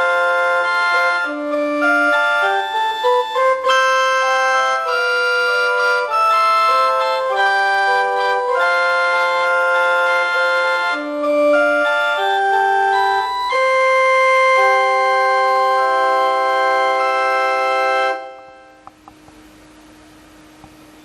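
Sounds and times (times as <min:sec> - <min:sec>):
electronic keyboard chords: 0:00.0 - 0:19.3.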